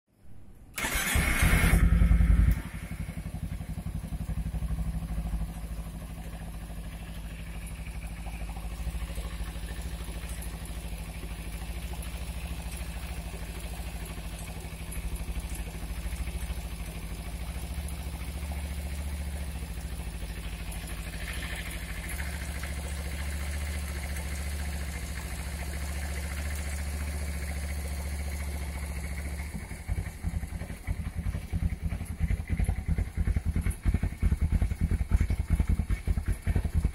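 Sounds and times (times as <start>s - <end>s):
engine ticking rattle: 0.7s - 36.9s
motorcycle engine idling: 0.8s - 36.9s.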